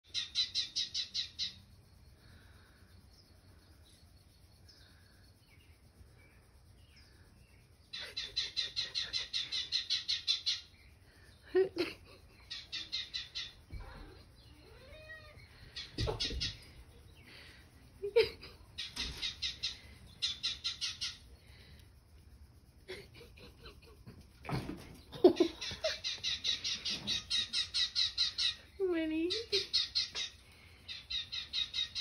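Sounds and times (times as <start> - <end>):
recorded birdsong chirps: 0.1 - 32.0.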